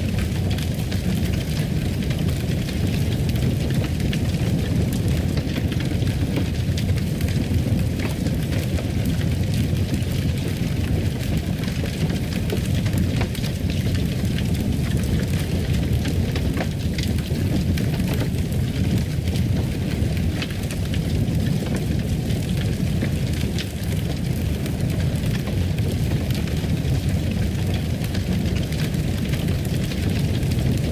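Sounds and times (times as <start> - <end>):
fireplace fire crackling and popping: 0.0 - 30.9.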